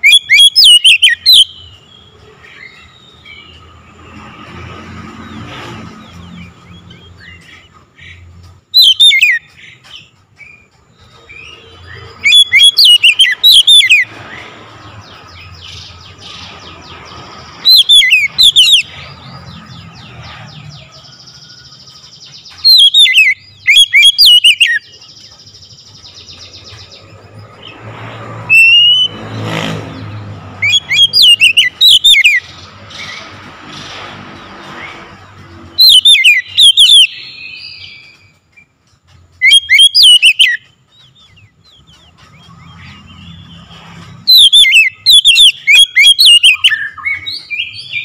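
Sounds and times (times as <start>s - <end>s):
bird singing whistled notes: 0.0s - 3.8s, 6.0s - 16.4s, 17.6s - 20.1s, 20.8s - 27.7s, 28.4s - 29.2s, 30.6s - 33.2s, 35.7s - 38.7s, 39.3s - 48.0s.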